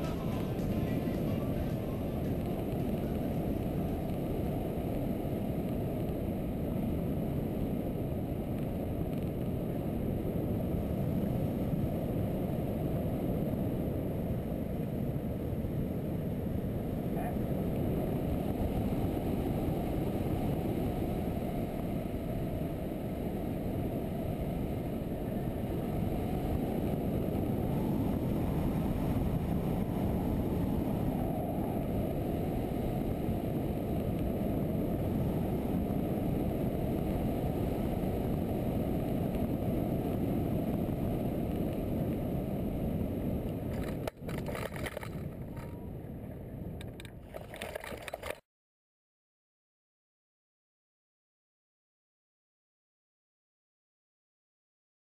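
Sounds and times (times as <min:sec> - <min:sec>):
wind buffeting microphone: 0:00.0 - 0:48.3.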